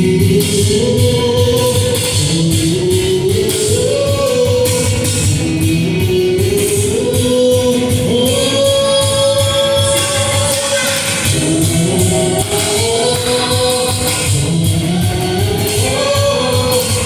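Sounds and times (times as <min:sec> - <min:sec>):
guitar: 0:00.0 - 0:17.0
person singing slow melody: 0:00.0 - 0:17.0
steady drum beat: 0:00.0 - 0:17.0.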